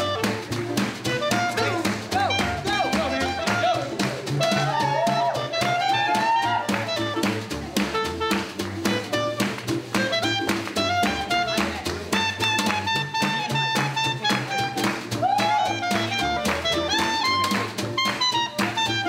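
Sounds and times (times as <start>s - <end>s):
clarinet melody: 0.0s - 19.0s
low bass notes: 0.0s - 19.0s
snare drum beat: 0.0s - 19.0s.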